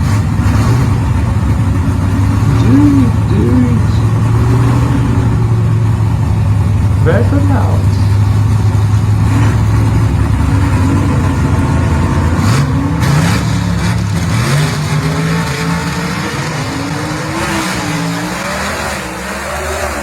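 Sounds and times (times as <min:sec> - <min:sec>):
drag car engines launching: 0:00.0 - 0:20.0.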